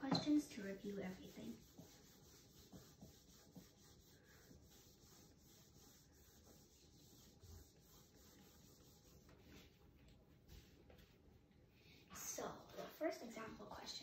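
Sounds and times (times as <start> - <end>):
rubbing on a whiteboard: 0.0 - 11.5.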